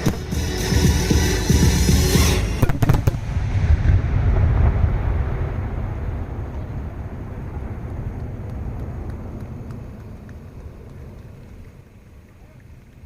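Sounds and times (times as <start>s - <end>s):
fireworks sharp bangs: 0.0s - 11.3s
low rumble of bursts: 0.0s - 13.0s.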